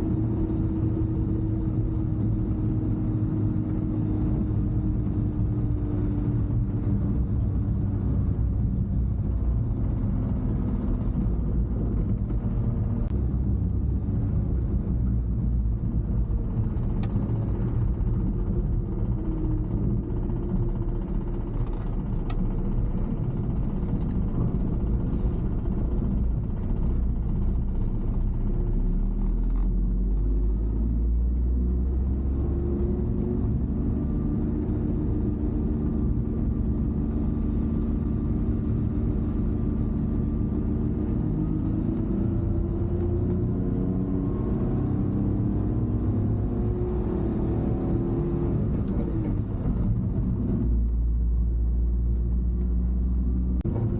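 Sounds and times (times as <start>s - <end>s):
truck engine running: 0.0s - 44.1s.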